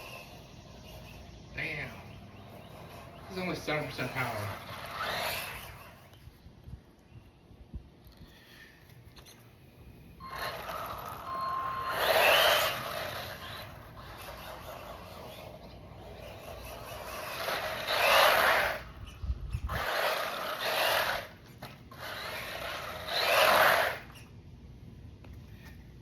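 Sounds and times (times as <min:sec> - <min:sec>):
rc truck motor and tyre noise: 0:00.0 - 0:07.1, 0:10.2 - 0:24.4.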